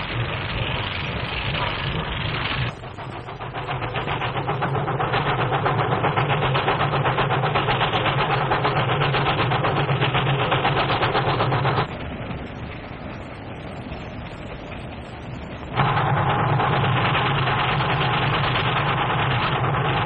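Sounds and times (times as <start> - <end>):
steam locomotive exhaust beats: 0.0 - 20.0.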